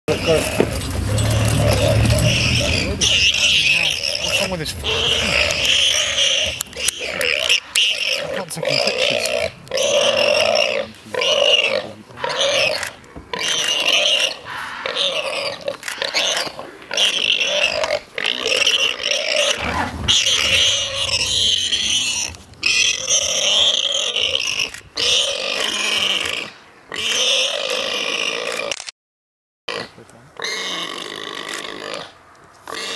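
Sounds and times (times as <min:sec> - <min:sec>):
warthog squealing: 0:00.1 - 0:28.7, 0:32.7 - 0:32.9.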